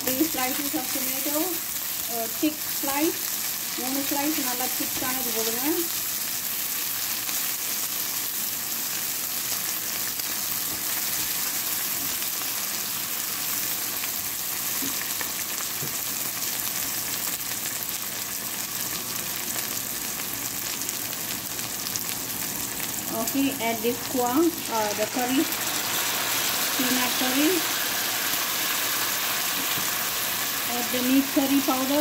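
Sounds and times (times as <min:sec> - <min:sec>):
food sizzling in hot oil: 0:00.0 - 0:32.0.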